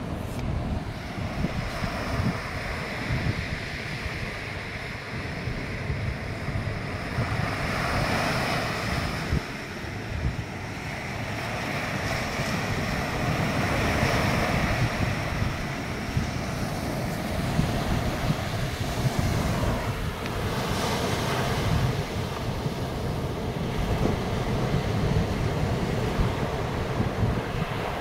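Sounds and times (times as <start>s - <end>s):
ocean surf breaking on beach: 0.0s - 28.0s
wind buffeting microphone: 0.0s - 28.0s.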